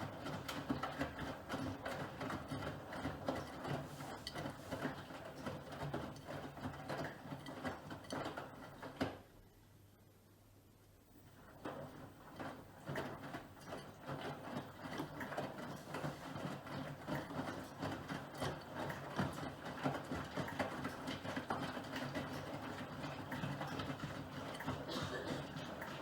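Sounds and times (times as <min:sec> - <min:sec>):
washing machine motor hum: 0:00.0 - 0:09.4, 0:11.2 - 0:26.0.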